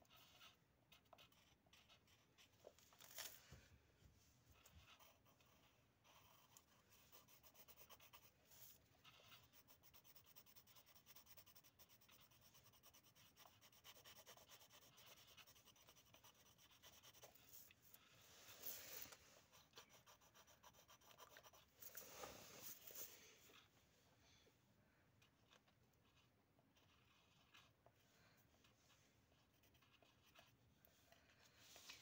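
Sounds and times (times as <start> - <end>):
pencils scratching on paper: 0.0 - 3.4, 4.5 - 23.7, 25.2 - 32.0.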